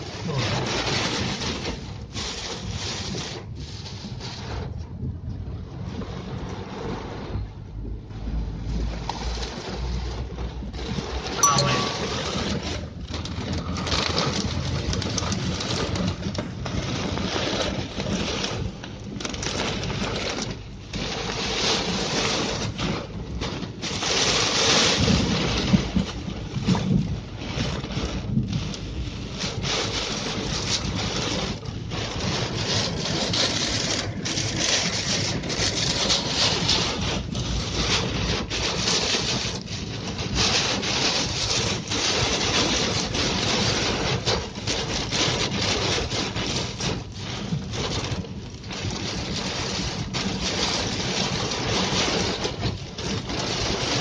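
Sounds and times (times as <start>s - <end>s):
windshield wipers sweeping: 0.0s - 4.7s, 5.8s - 7.4s, 8.1s - 54.0s
heavy rain on a car: 0.0s - 54.0s.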